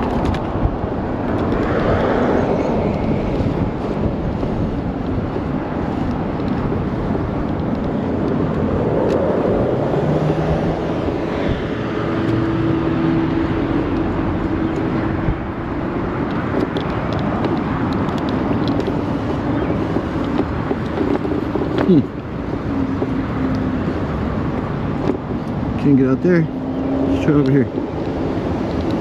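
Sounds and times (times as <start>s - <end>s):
steady vehicle hum: 0.0s - 29.0s
wind and road noise: 0.0s - 29.0s.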